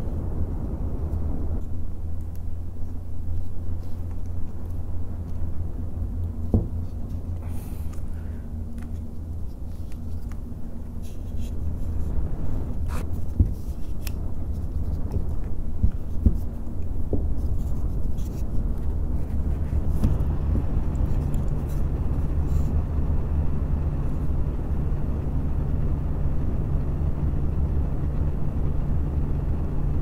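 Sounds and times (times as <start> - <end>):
faint steady hum: 0.0 - 30.0
pc fans rushing air: 0.0 - 30.0.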